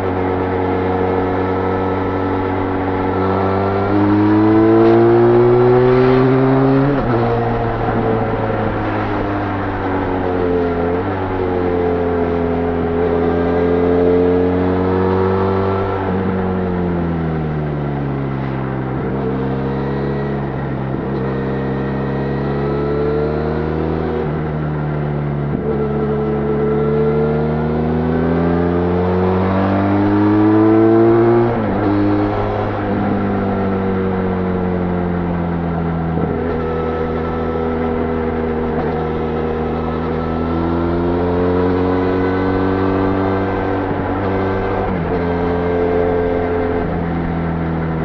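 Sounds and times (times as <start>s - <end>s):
motorcycle engine on road: 0.0s - 48.0s.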